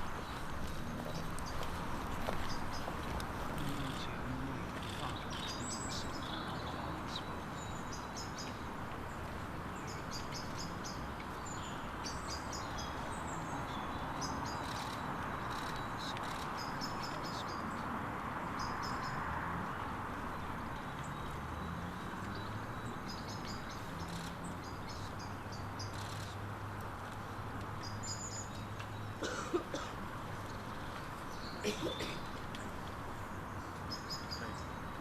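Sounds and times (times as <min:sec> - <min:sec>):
outdoor background hiss: 0:00.0 - 0:35.0
songbirds chirping: 0:00.0 - 0:35.0.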